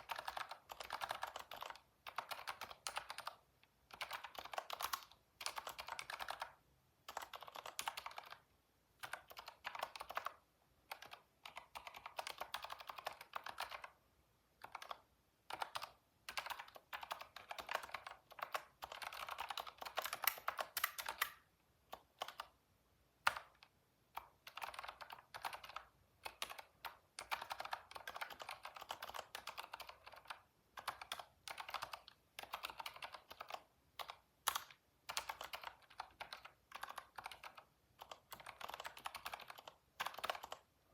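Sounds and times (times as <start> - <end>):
computer keyboard typing: 0.0 - 14.0, 14.6 - 22.6, 23.2 - 40.7.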